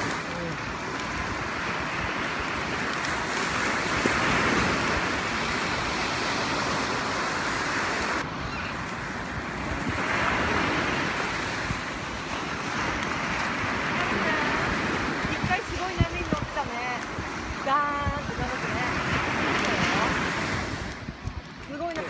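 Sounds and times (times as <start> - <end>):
surf breaking on a beach: 0.0 - 22.0
wind on microphone: 0.0 - 22.0.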